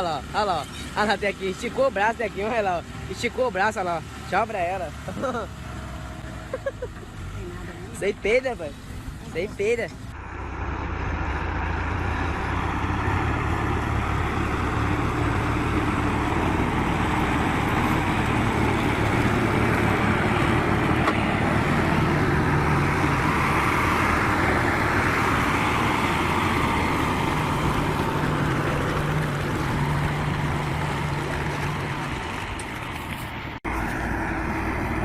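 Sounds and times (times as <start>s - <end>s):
heavy vehicle engine rumbling: 0.0s - 35.0s.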